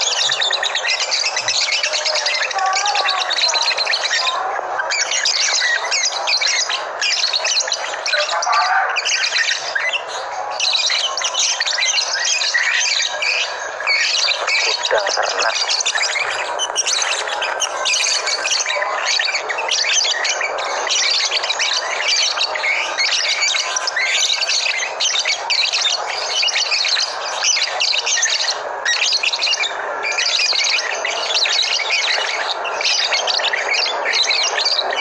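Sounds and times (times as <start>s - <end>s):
caged birds chirping and squawking: 0.0s - 35.0s.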